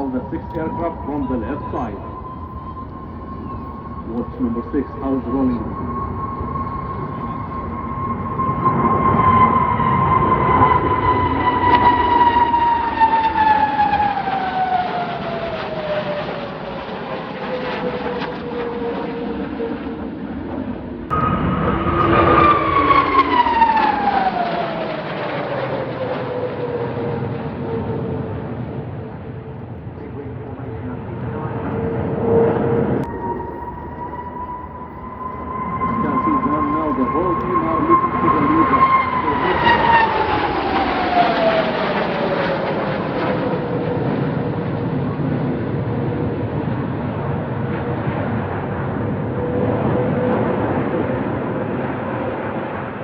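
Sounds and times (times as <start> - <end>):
jet engines passing close by: 0.0 - 53.0.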